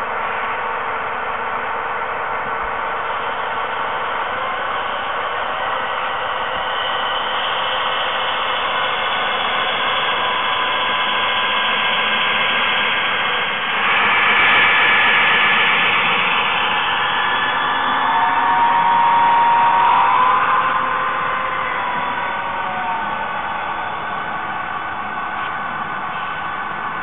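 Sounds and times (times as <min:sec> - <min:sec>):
model train motor and wheels: 0:00.0 - 0:27.0
tinny model diesel engine sound: 0:00.0 - 0:27.0.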